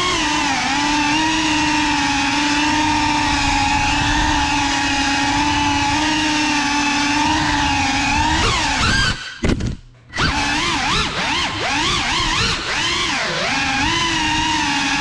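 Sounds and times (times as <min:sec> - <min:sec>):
drone propellers whining: 0:00.0 - 0:09.5, 0:10.1 - 0:15.0.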